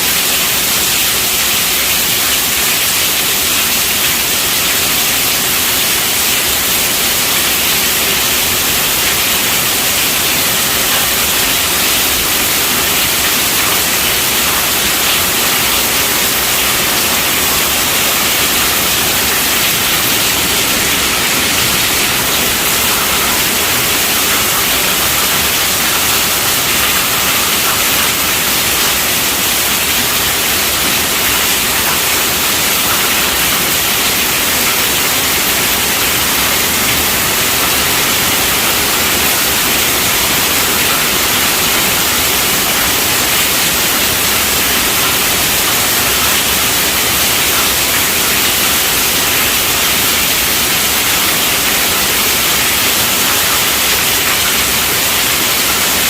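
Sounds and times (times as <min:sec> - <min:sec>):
heavy rain on tent roof: 0:00.0 - 0:56.0.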